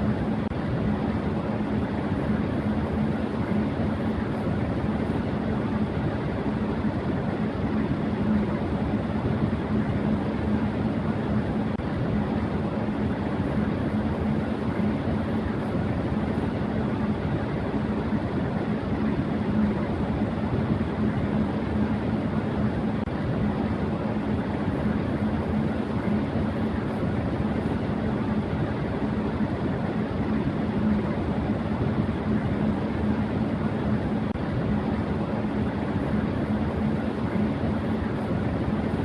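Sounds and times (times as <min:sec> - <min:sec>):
electric fan running: 0:00.0 - 0:39.0.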